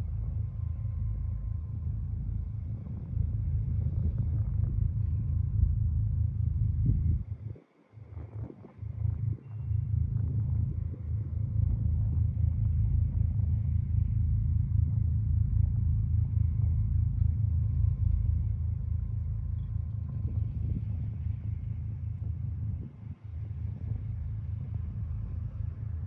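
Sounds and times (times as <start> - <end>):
ferry engine low rumble: 0.0 - 26.0.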